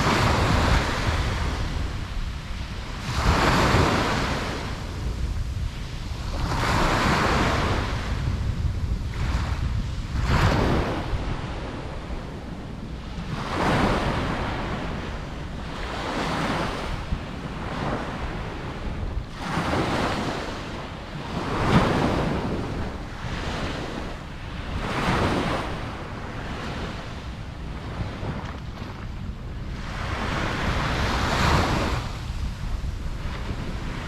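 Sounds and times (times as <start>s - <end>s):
ocean waves breaking on beach: 0.0s - 34.0s
wind rumble on microphone: 0.0s - 34.0s.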